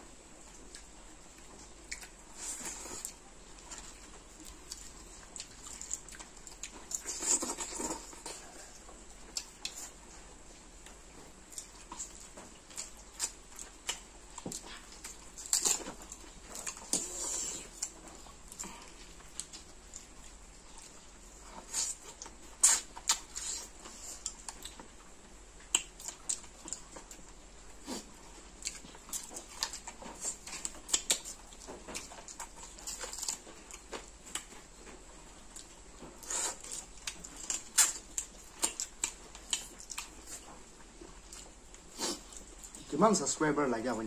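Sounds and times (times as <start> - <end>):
wet chewing: 0.4 - 42.9.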